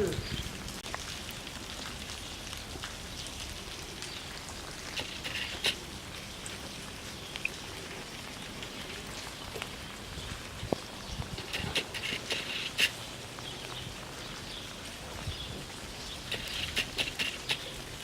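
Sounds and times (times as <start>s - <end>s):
raindrop ticks: 0.0s - 18.0s
steady rain: 0.0s - 18.0s.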